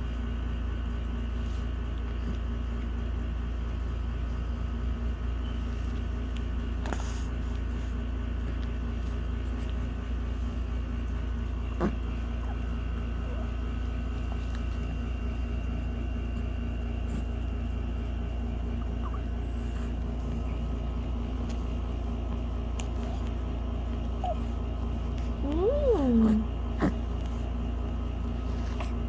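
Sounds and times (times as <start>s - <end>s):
low rumble with hum: 0.0s - 29.0s.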